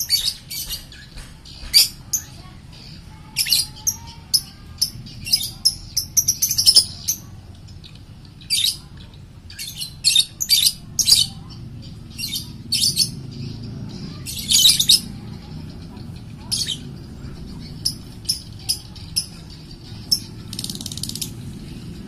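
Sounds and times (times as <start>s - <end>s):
high-pitched bird chirps: 0.0s - 21.4s.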